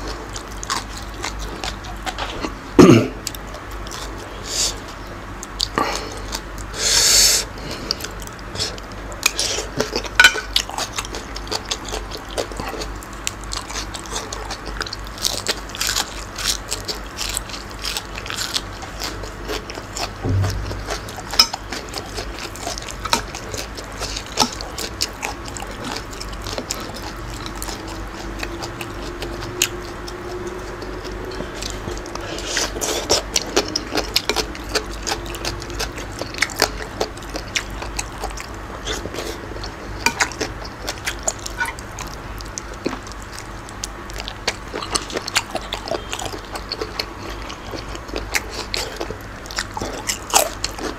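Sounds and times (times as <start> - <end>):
person chewing: 0.0 - 6.8, 7.4 - 50.9.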